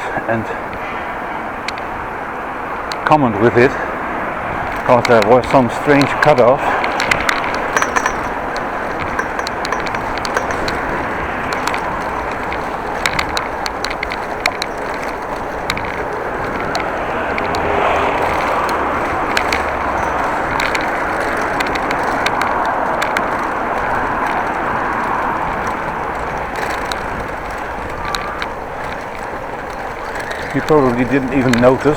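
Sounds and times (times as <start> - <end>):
bicycle rolling and rushing: 0.7 - 31.9
sharp clicks and rattles: 2.8 - 3.4, 4.5 - 31.9.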